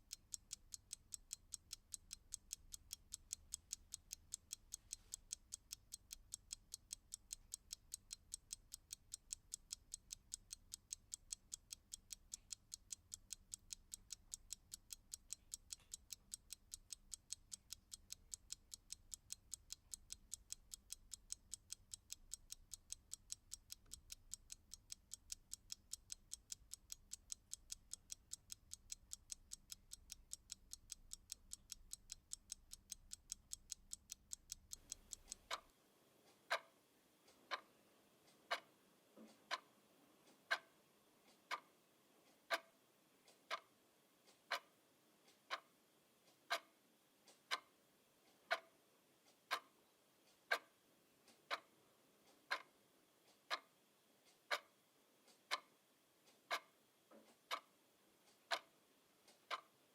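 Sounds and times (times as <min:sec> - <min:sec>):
clock ticking: 0:00.0 - 0:35.7, 0:36.3 - 0:36.7, 0:37.3 - 0:41.7, 0:42.4 - 0:43.7, 0:44.3 - 0:44.7, 0:45.3 - 0:45.7, 0:46.3 - 0:47.7, 0:48.3 - 0:48.7, 0:49.3 - 0:49.7, 0:50.3 - 0:50.7, 0:51.3 - 0:51.7, 0:52.3 - 0:52.7, 0:53.3 - 0:53.7, 0:54.3 - 0:54.7, 0:55.3 - 0:55.7, 0:56.3 - 0:57.7, 0:58.3 - 0:59.8.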